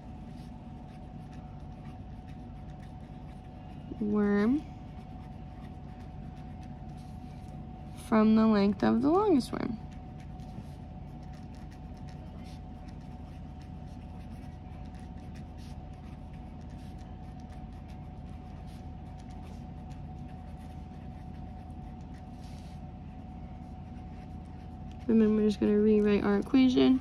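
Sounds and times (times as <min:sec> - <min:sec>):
pen scratching on paper: 0:00.0 - 0:08.0, 0:09.8 - 0:27.0
background hum with thin tone: 0:00.0 - 0:27.0.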